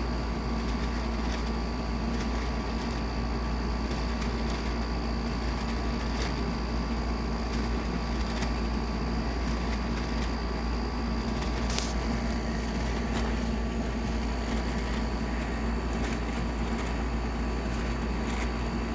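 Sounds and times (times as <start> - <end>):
air conditioner whirring: 0.0 - 18.9.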